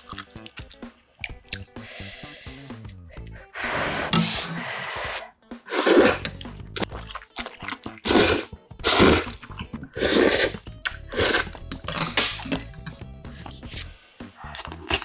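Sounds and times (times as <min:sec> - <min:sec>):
person chewing and slurping: 0:00.0 - 0:02.4, 0:03.2 - 0:15.0.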